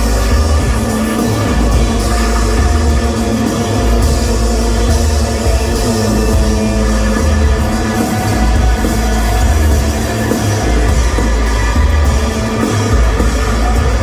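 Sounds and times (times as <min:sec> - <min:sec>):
heavy bass pulses: 0:00.0 - 0:14.0
live rock band playing: 0:00.0 - 0:14.0.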